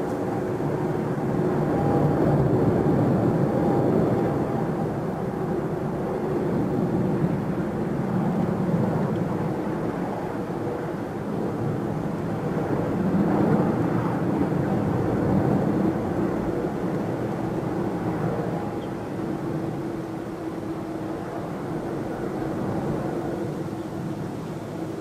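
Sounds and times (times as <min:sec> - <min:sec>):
distant jet engine rumble: 0:00.0 - 0:25.0.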